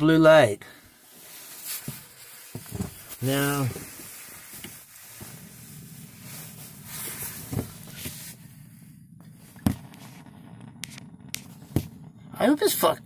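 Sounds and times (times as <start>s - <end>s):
steady low rumble: 0.7s - 13.0s.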